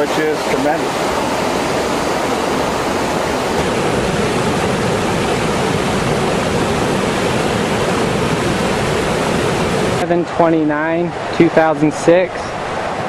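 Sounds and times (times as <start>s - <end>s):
floodwater rushing in river: 0.0s - 13.0s.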